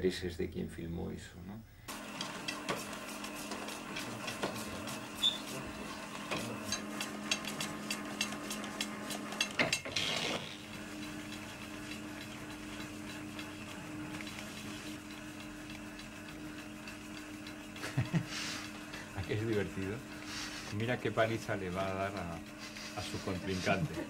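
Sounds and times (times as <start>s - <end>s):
motor hum: 1.9s - 24.0s.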